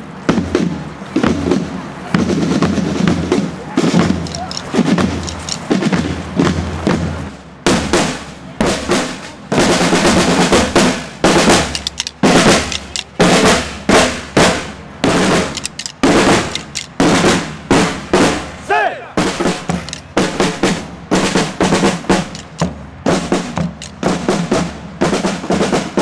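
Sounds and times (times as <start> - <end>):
snare drums marching cadence: 0.2 - 26.0.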